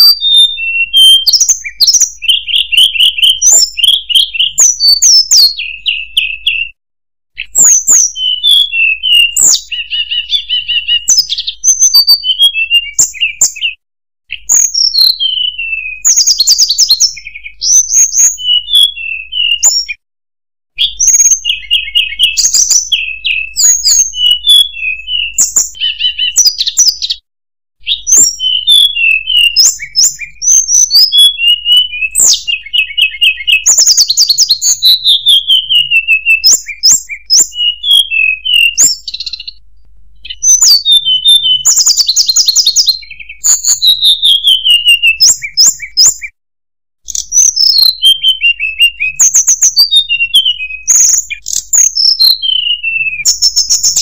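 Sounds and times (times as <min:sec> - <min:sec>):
bird singing chirps and trills: 0:00.0 - 0:06.8, 0:07.4 - 0:20.0, 0:20.8 - 0:27.2, 0:27.8 - 0:39.6, 0:40.2 - 0:46.4, 0:47.1 - 0:54.0.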